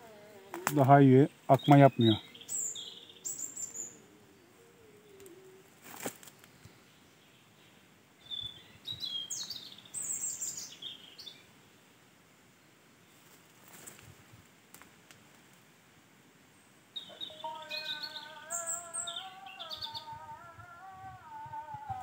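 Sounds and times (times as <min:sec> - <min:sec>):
songbird chirping: 0:00.0 - 0:14.0, 0:16.4 - 0:22.0.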